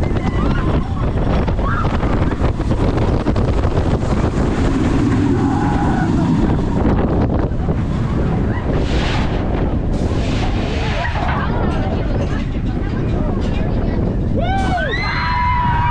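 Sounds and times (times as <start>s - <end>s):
roller coaster wheels rumbling: 0.0s - 15.9s
wind buffeting microphone: 0.0s - 15.9s.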